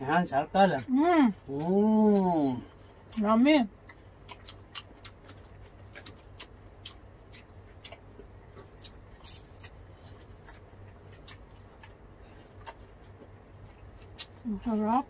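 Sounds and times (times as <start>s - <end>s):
chewing and crunching food: 0.0s - 15.0s
faint low hum: 0.0s - 15.0s.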